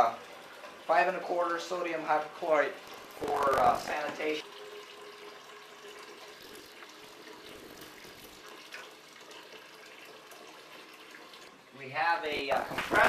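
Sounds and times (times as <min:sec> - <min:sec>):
water running from faucet into bucket: 0:00.0 - 0:13.0.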